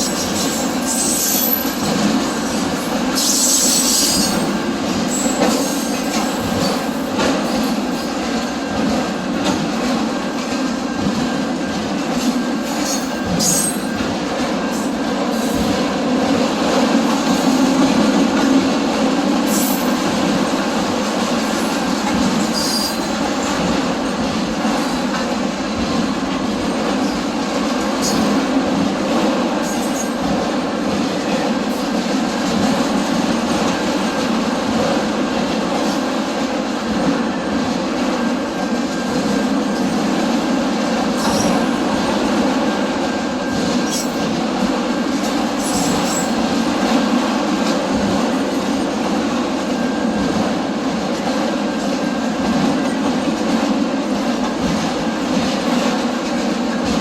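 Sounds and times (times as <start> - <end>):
clicks of train wheels: 0.0 - 57.0
train wheels rumbling on rails: 0.0 - 57.0.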